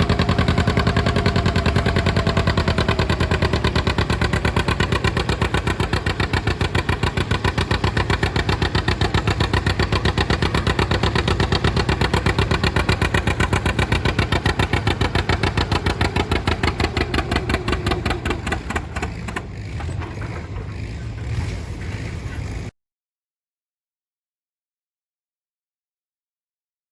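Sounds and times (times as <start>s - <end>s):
tractor engine running: 0.0s - 22.7s.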